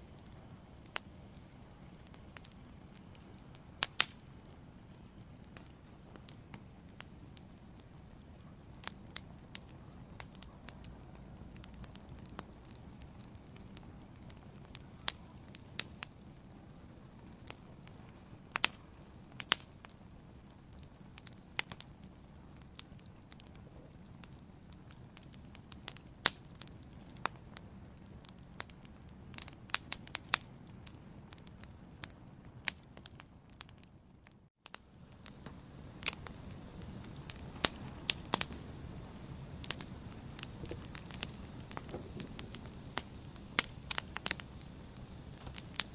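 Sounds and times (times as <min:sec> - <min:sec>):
low rumble of burning: 0:00.0 - 0:45.9
wood fire crackling and popping: 0:00.0 - 0:45.9.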